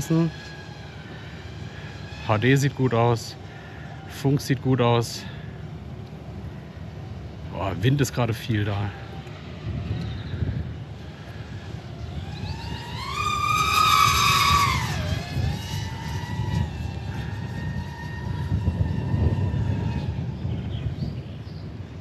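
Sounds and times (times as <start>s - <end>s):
quadcopter motors whining: 0.0s - 22.0s
wind rumbling on microphone: 0.0s - 22.0s.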